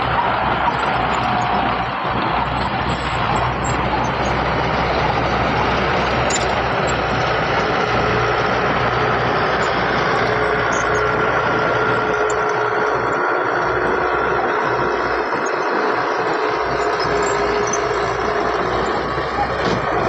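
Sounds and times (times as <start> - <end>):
faint steady whine: 0.0 - 20.0
heavy diesel machinery engine: 0.0 - 20.0.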